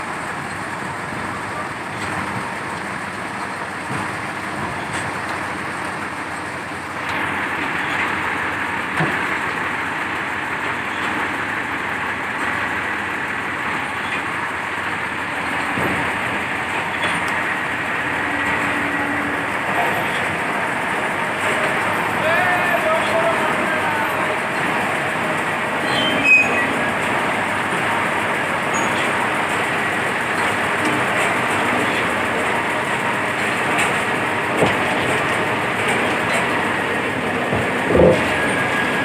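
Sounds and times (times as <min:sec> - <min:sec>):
crane engine running: 0:00.0 - 0:39.0.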